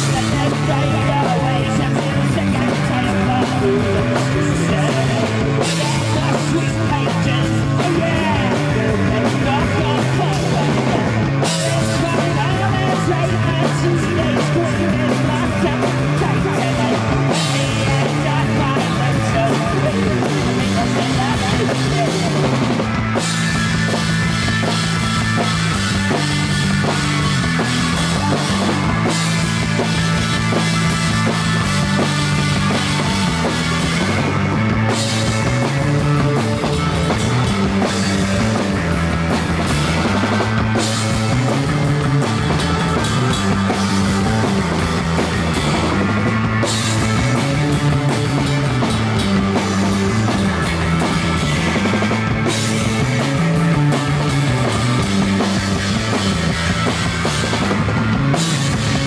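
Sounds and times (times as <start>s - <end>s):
drums pounding beat: 0.0s - 59.0s
electric guitar riff: 0.0s - 59.0s.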